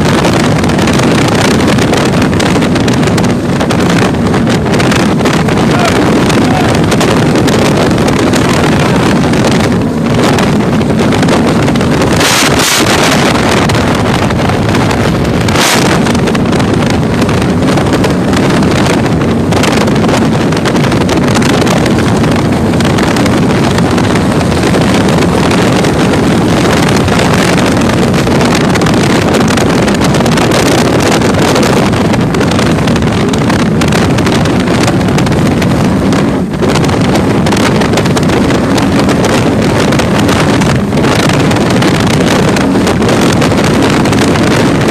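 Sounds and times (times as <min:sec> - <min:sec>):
boat engines running: 0:00.0 - 0:44.9
wind buffeting microphone: 0:00.0 - 0:44.9.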